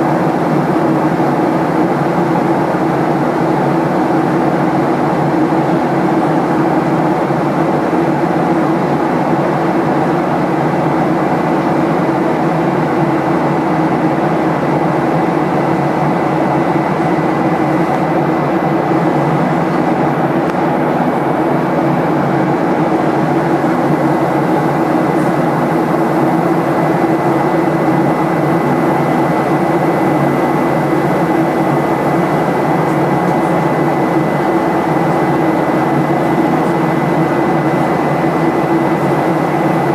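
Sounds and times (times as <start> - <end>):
jet engine cabin rush: 0.0 - 39.9.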